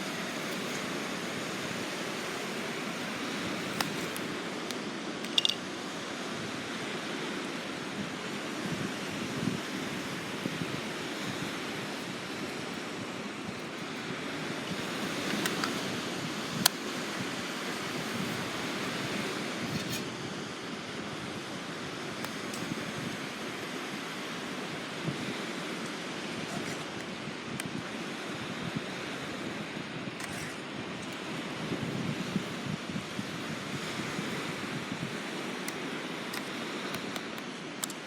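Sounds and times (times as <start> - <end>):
surf washing on shore: 0.0 - 38.0.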